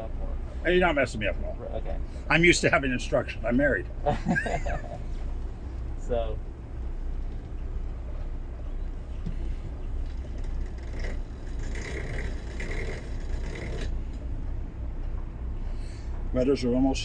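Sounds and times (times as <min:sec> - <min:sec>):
boat diesel engines rumbling: 0:00.0 - 0:17.0.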